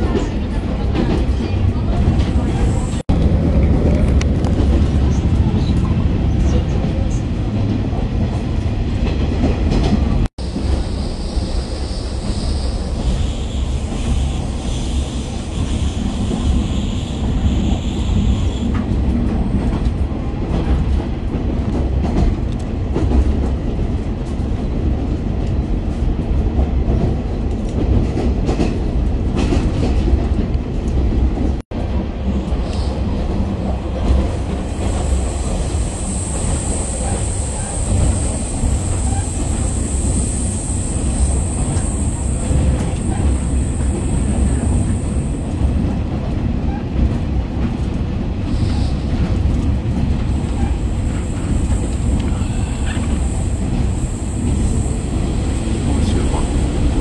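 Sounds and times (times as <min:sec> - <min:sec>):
diesel railcar rumbling: 0:00.0 - 0:57.0.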